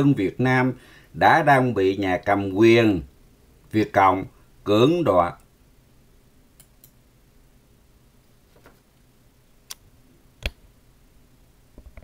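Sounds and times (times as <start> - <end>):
room hiss: 0.0 - 12.0.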